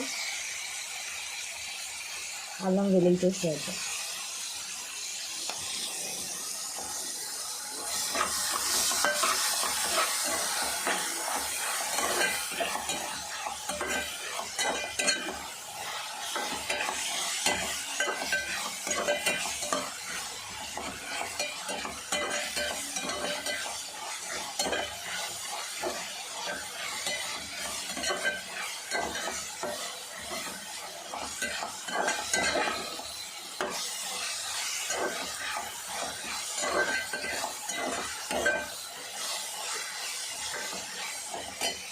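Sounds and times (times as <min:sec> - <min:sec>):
onions sizzling in hot oil: 0:00.0 - 0:41.9
utensil scraping against pan: 0:07.8 - 0:41.9.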